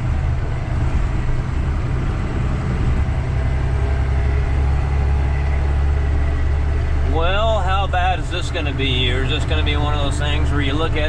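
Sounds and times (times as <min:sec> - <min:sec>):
vehicle engine deep rumble: 0:00.0 - 0:11.0.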